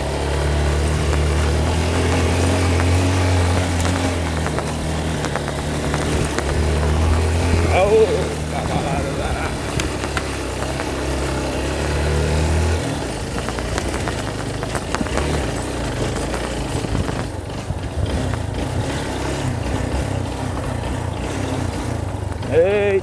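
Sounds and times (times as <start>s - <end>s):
knocks and rattles: 0.0s - 22.5s
motorcycle engine running: 0.0s - 23.0s.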